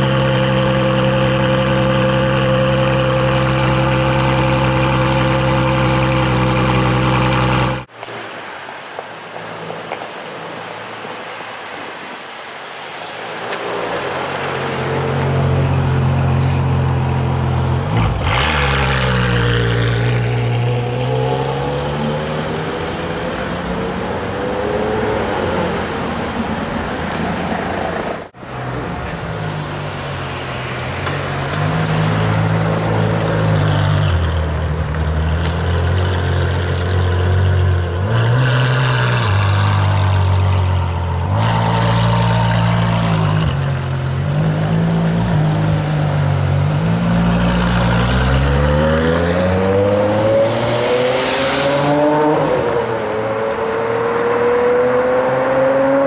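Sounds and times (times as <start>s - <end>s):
car accelerating away: 0.0s - 7.9s, 14.2s - 25.9s, 28.6s - 56.0s
car engine idling and revving: 0.0s - 7.9s, 13.3s - 56.0s.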